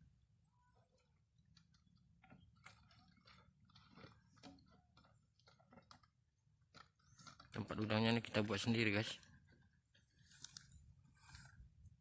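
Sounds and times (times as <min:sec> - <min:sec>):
small items clicking and tapping: 0:01.0 - 0:11.5.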